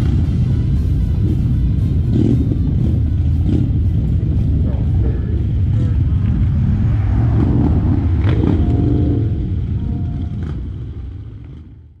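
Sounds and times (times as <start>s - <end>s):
motorcycles rumbling: 0.0s - 12.0s.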